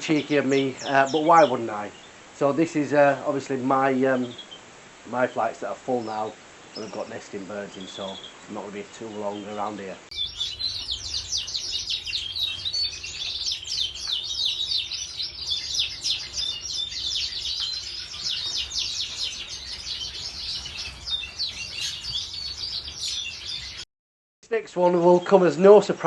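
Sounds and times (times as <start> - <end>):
small birds chirping and twittering: 0.0 - 23.8, 24.8 - 26.0.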